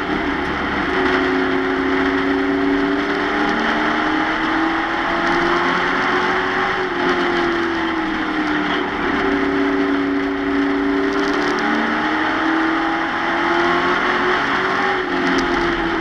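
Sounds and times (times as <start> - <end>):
truck engine at high revs: 0.0 - 16.0.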